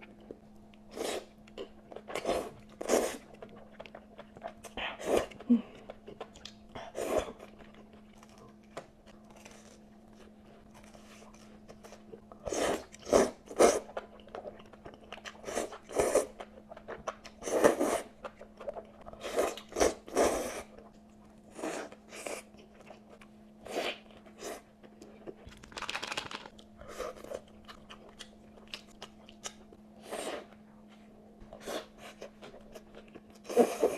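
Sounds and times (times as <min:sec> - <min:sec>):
person chewing crunchy food: 0:00.0 - 0:30.6, 0:31.5 - 0:33.9
faint steady hum: 0:00.0 - 0:33.9.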